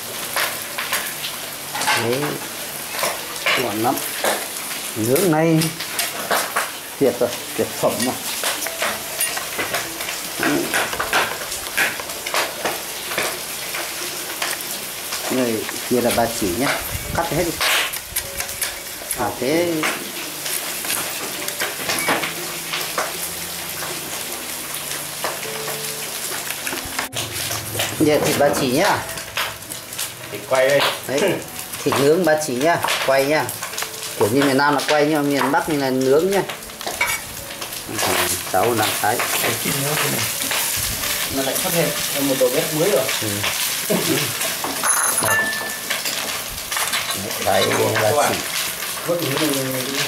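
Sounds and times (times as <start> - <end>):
meat fat sizzling on grill: 0.0 - 50.0.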